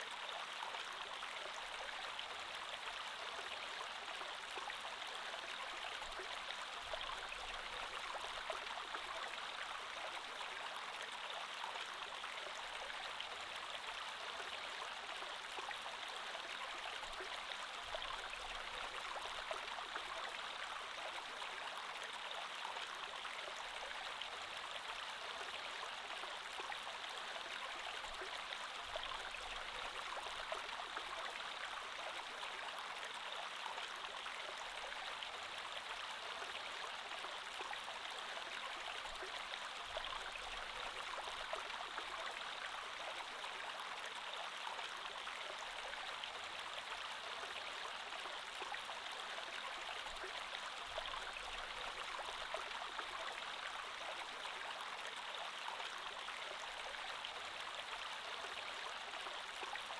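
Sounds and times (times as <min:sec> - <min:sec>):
creek water flowing over stones: 0:00.0 - 0:59.9.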